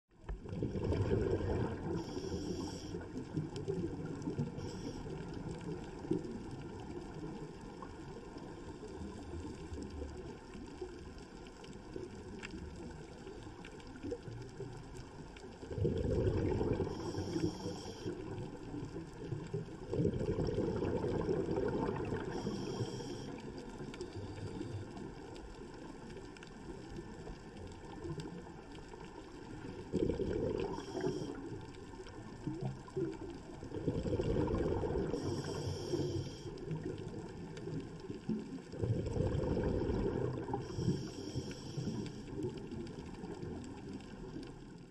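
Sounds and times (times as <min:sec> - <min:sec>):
underwater exhaust bubbles: 0:00.1 - 0:44.9.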